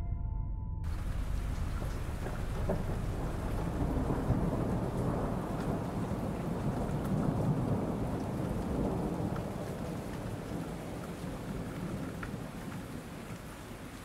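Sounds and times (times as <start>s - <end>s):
thunder rumbling: 0.0s - 13.2s
steady rain: 0.9s - 14.0s.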